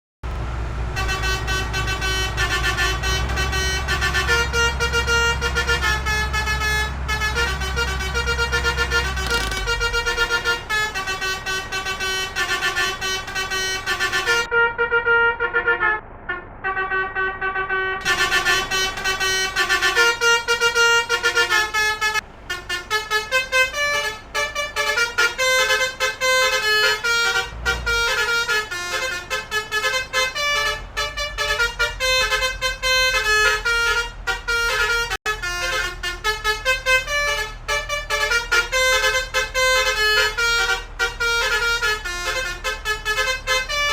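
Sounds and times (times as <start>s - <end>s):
bus musical horn tune: 0.2s - 43.9s.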